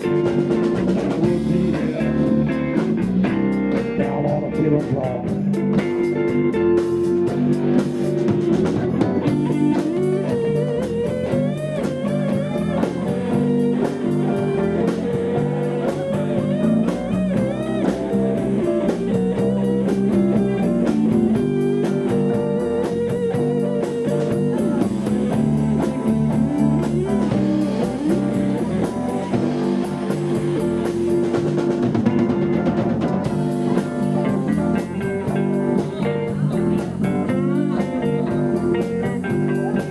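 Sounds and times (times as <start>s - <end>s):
blues band playing: 0.0s - 39.9s
lead guitar bending notes: 0.0s - 39.9s.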